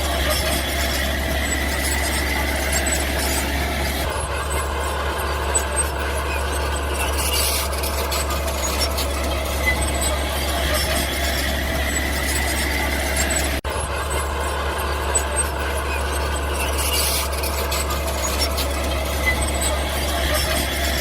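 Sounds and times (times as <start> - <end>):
bulldozer engine: 0.0 - 21.0
high squeal: 0.0 - 21.0.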